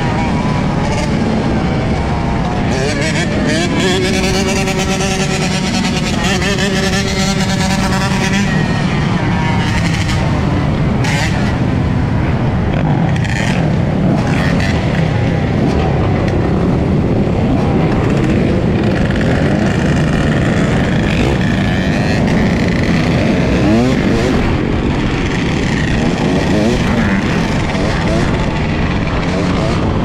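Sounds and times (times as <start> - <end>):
motorcycle engine running: 0.0 - 30.0
road and traffic noise: 0.0 - 30.0.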